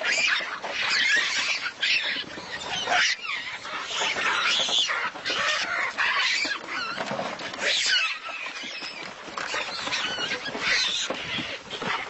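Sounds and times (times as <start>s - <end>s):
animals squealing and chattering: 0.0s - 12.0s.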